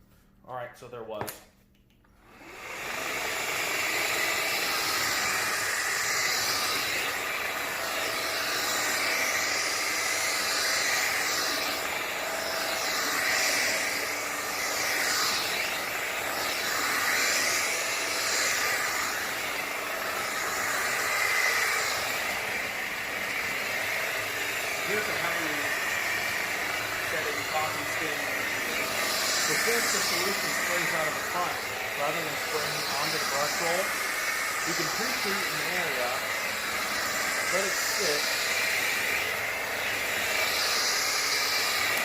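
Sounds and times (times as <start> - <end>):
floor cleaner whirring: 2.2 - 42.0.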